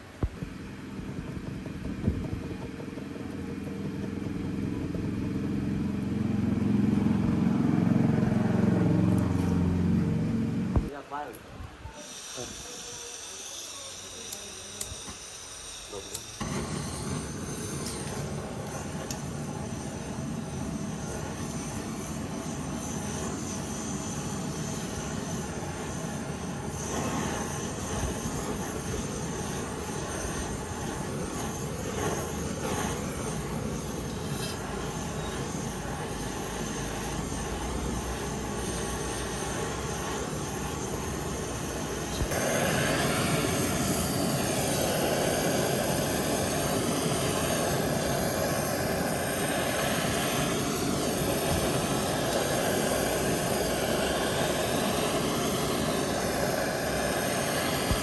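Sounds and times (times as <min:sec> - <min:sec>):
steady machine noise: 0:00.0 - 0:11.3, 0:12.0 - 0:58.0.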